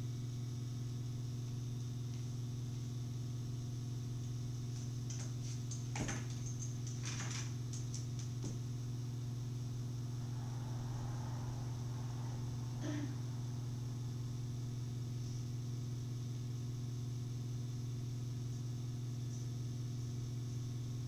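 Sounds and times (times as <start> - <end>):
low electronic hum: 0.0 - 21.0.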